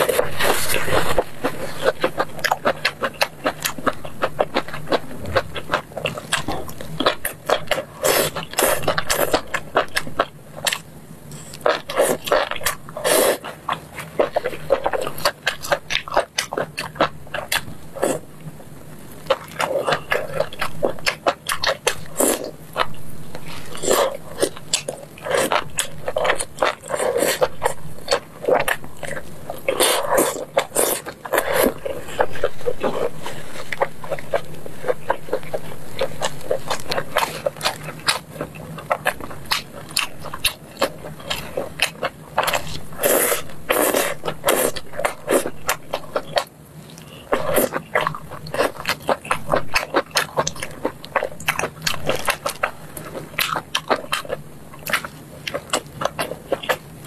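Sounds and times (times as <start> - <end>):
wet chewing and lip-smacking: 0.0 - 18.3, 19.2 - 57.0
faint low hum: 0.0 - 57.0.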